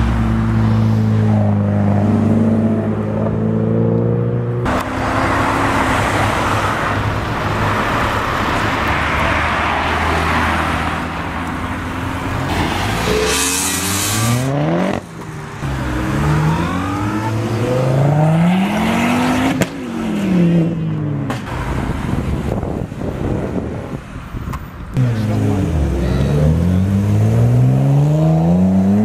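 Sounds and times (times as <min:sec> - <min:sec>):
sports cars accelerating past: 0:00.1 - 0:21.8, 0:25.0 - 0:29.0.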